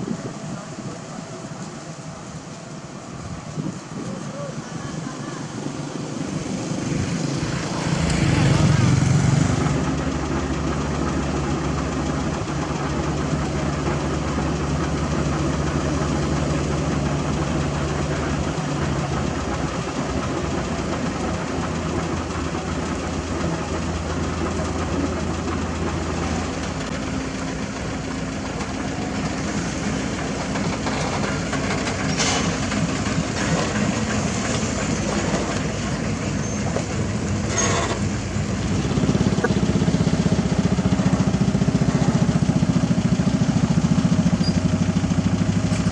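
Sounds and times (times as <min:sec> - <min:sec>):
heavy machinery engines running: 0:00.0 - 0:45.9.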